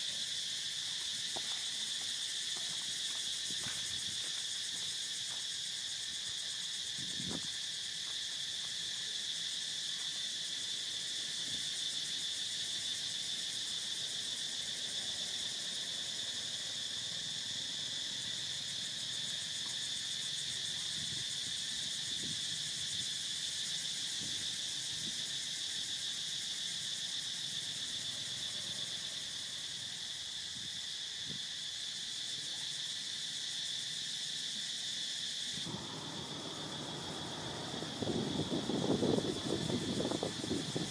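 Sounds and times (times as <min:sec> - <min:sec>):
insect chorus buzzing: 0:00.0 - 0:40.9.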